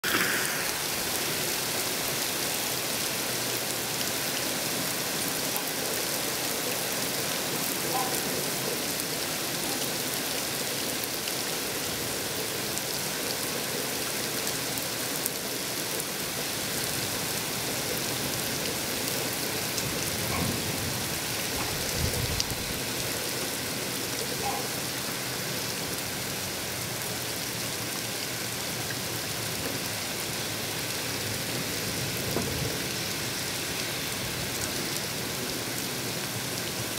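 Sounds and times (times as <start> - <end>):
heavy rain on pavement: 0.0 - 36.9.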